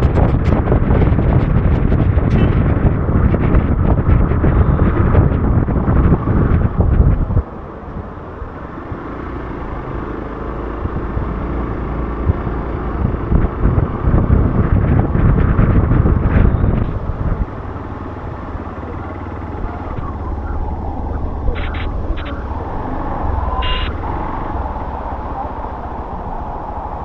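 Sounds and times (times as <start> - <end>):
motorcycle engine running: 0.0 - 7.4, 9.0 - 26.6.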